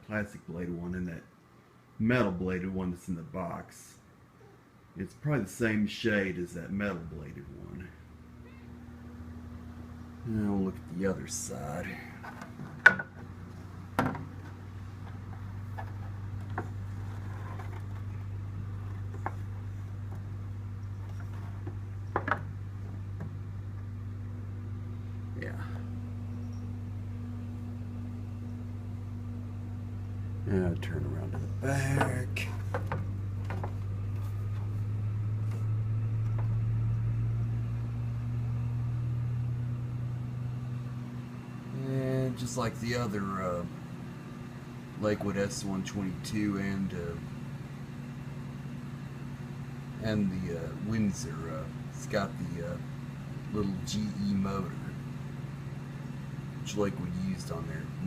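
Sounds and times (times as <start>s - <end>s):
fan motor humming: 0.0s - 58.0s.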